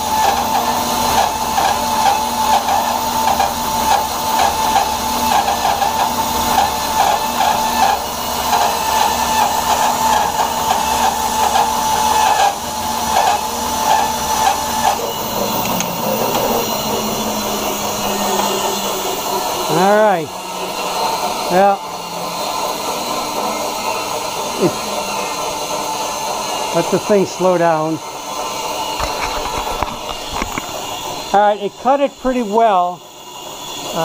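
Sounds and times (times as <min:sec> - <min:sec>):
bandsaw resawing a board: 0:00.0 - 0:34.0
wavering machine tone: 0:01.0 - 0:34.0.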